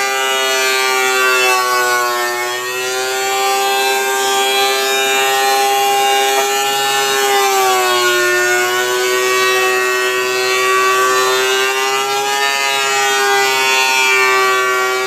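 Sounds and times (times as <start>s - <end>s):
benchtop planer whining: 0.0s - 15.0s.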